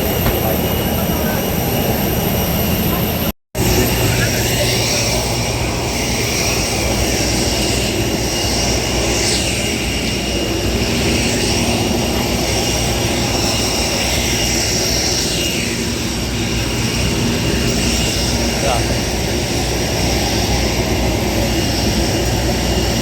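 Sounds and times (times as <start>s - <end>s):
airplane engines droning: 0.0s - 23.0s.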